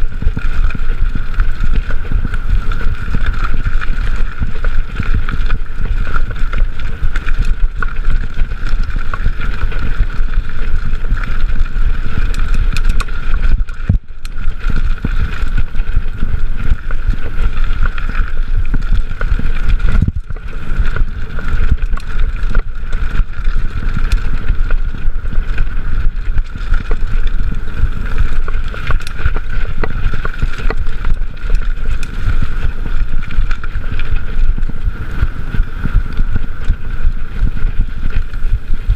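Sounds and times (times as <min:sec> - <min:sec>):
bike rumbling and rattling: 0:00.0 - 0:38.9
wind buffeting microphone: 0:00.0 - 0:38.9.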